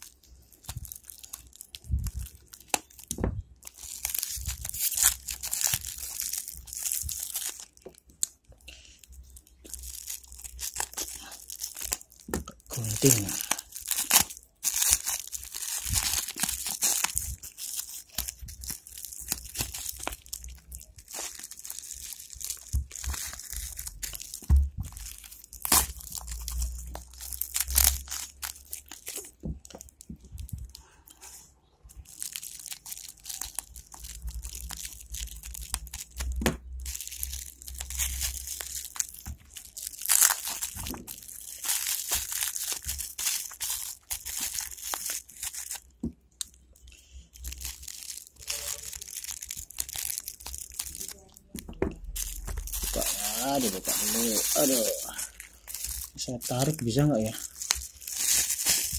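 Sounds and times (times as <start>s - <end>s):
plastic bag crinkling: 0.0s - 58.9s.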